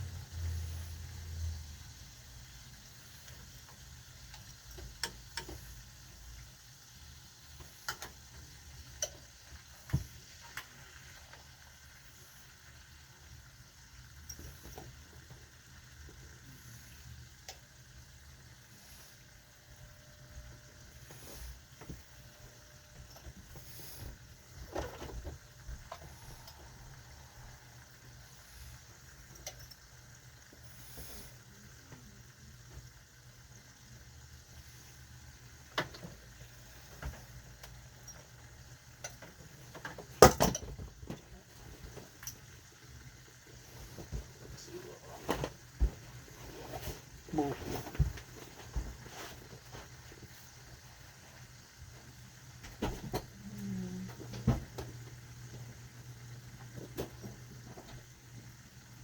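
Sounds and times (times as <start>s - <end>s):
food sizzling in a pan: 0.0s - 59.0s
steady low hum: 0.0s - 59.0s.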